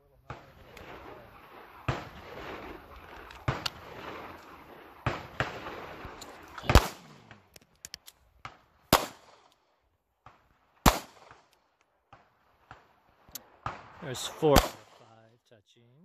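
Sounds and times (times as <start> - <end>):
pistol shots: 0.2 - 7.5, 8.4 - 9.6, 10.2 - 15.1.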